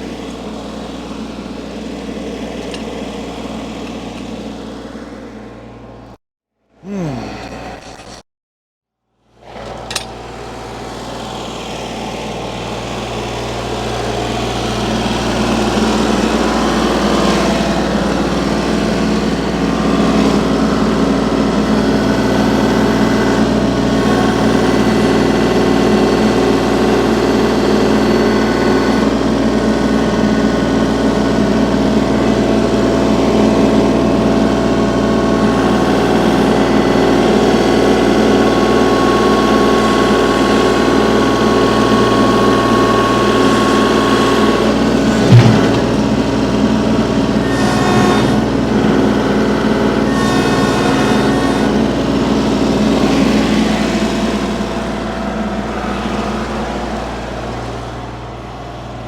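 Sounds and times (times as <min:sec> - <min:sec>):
engine running steadily: 0:00.0 - 0:06.2, 0:09.6 - 0:59.0.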